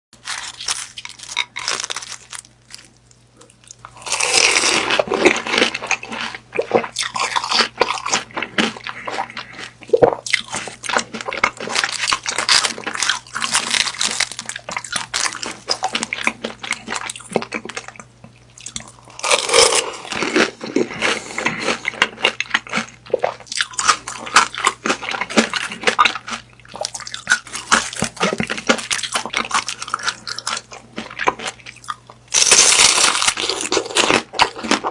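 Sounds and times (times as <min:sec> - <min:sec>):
person chewing: 0:00.2 - 0:34.9.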